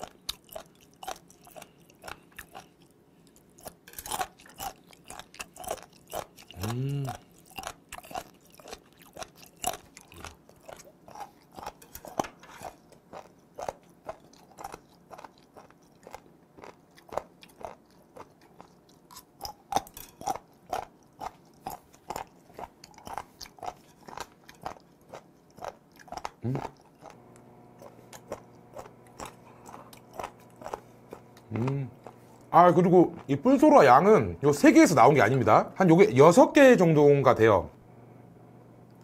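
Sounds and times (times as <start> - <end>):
close chewing with clicky bites: 0.0 - 33.7.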